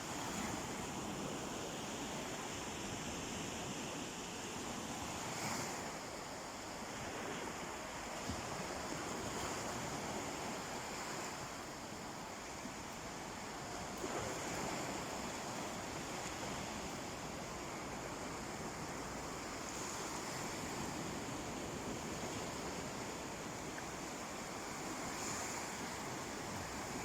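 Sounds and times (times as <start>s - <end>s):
sea waves washing ashore: 0.0s - 27.0s.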